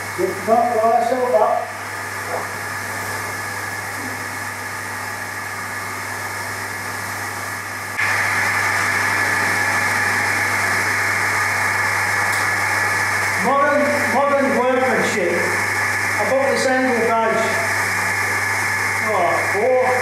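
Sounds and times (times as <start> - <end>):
motor humming with low drone: 0.0 - 20.0.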